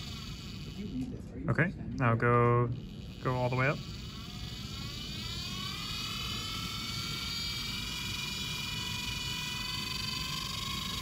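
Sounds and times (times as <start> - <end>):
electric motor whine: 0.0 - 1.2, 2.7 - 11.0.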